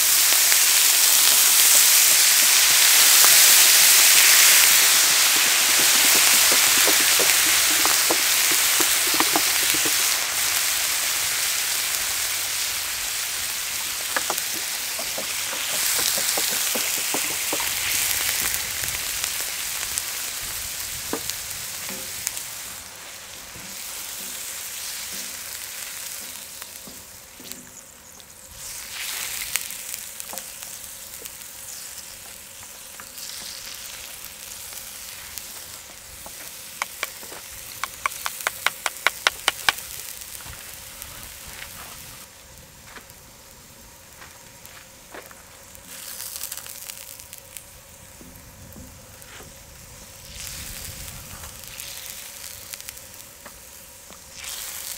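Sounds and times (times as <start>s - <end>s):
crackles and pops: 0.0s - 10.8s, 12.8s - 22.9s, 23.6s - 42.3s, 44.2s - 47.8s, 50.2s - 54.9s
water sizzling on hot griddle: 0.0s - 54.9s.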